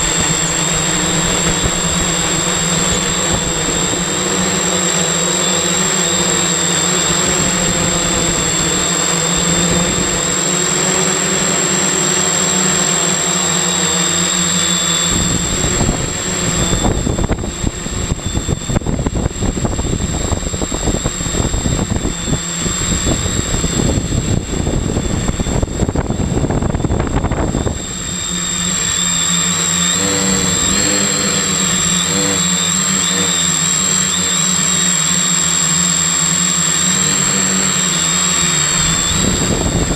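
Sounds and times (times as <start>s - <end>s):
drone motor whine: 0.0s - 39.9s.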